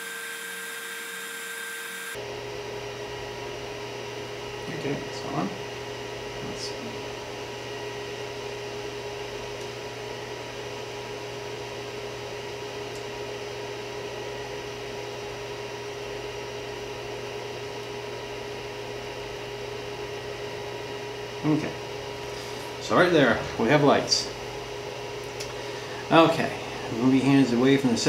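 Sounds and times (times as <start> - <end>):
cooling fans whirring: 0.0 - 28.0.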